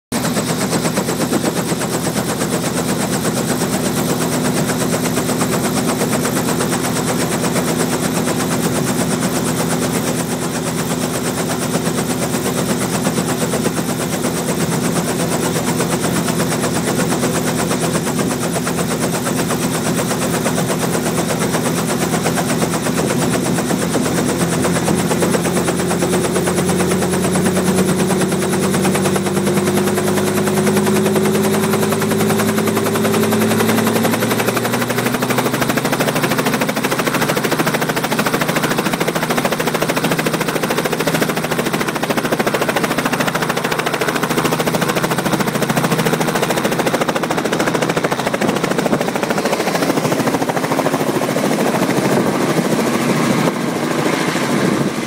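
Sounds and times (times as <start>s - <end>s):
helicopter rotor chopping: 0.1s - 55.0s
piston engine running: 0.1s - 55.0s.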